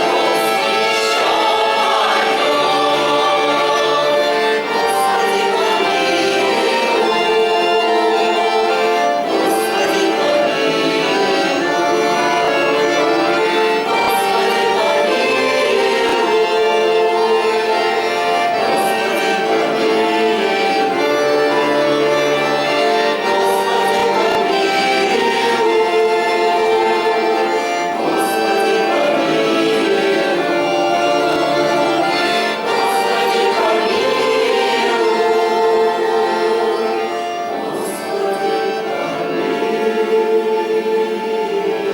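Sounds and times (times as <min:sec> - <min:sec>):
accordion chords: 0:00.0 - 0:41.9
choir singing: 0:00.0 - 0:41.9.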